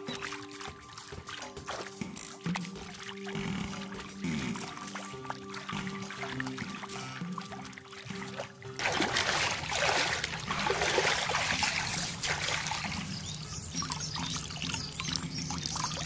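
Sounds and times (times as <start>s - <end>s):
water running off: 0.0s - 16.0s
water splashing from thrashing fish: 0.0s - 16.0s.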